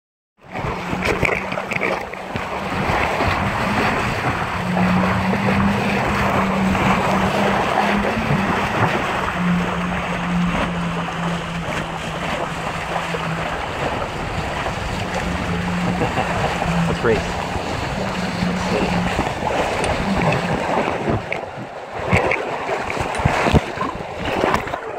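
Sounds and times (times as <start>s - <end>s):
water splashing past hull: 0.4s - 24.9s
wind buffeting microphone: 0.4s - 24.9s
low steady hum: 0.5s - 21.9s.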